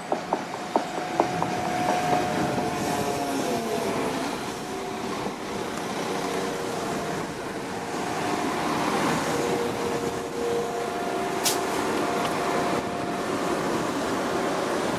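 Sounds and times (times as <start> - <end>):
train engine and running noise: 0.0 - 14.9.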